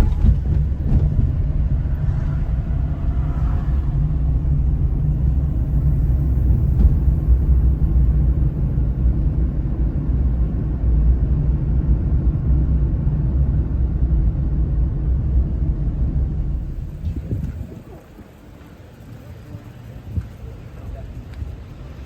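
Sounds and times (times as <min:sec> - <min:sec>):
loud low rumble: 0:00.0 - 0:18.7.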